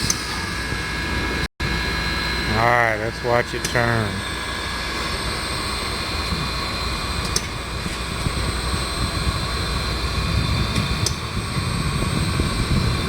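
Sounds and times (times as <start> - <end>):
turntable motor drone: 0.0 - 13.0.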